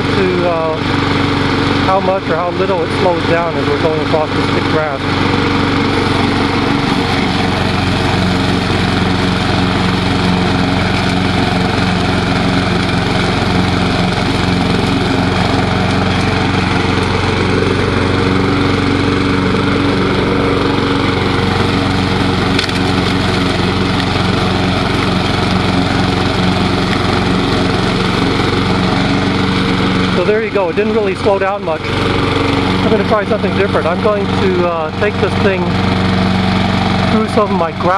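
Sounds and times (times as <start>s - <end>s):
lawn mower cutting grass: 0.0s - 37.9s.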